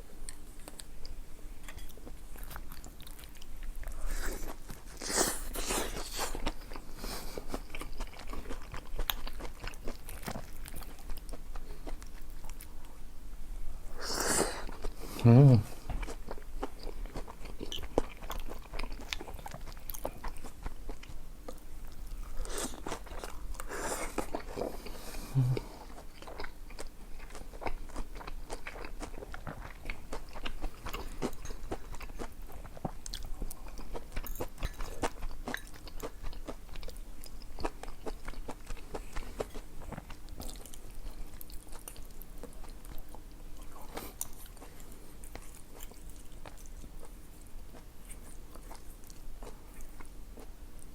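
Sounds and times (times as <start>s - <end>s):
person chewing and crunching food: 0.2s - 13.0s, 14.0s - 50.9s.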